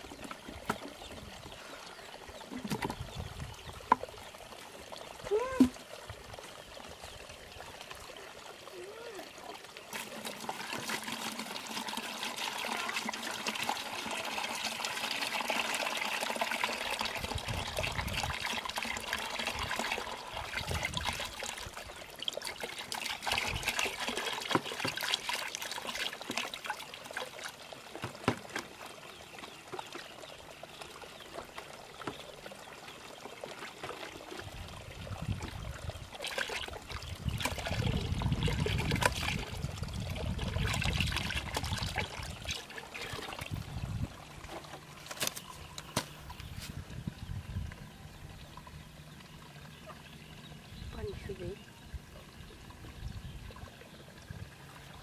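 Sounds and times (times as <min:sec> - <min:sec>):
water pouring into bucket: 0:00.0 - 0:47.6.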